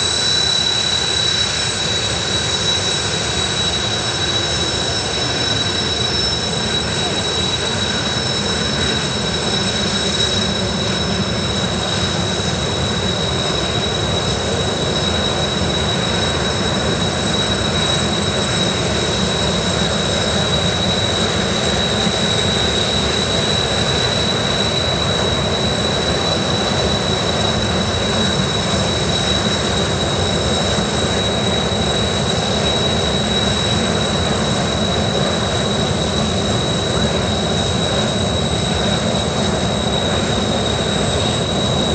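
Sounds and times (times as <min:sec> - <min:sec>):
jet engines whining and roaring: 0:00.0 - 0:41.9.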